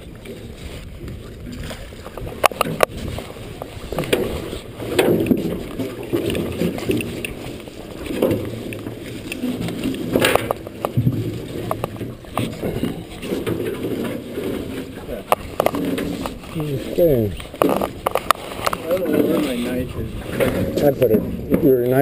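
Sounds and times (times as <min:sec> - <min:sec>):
muffled knocking and rustling of net: 0:00.0 - 0:22.0.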